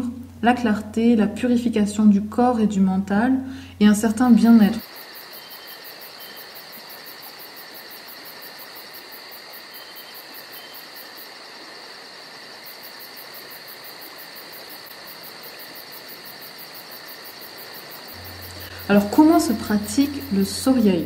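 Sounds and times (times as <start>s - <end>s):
constant hiss: 0.0s - 21.0s
crickets chirring: 3.6s - 21.0s.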